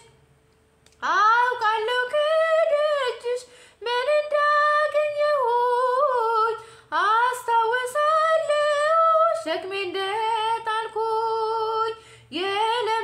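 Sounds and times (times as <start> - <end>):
woman singing a hymn unaccompanied: 1.0 - 13.0.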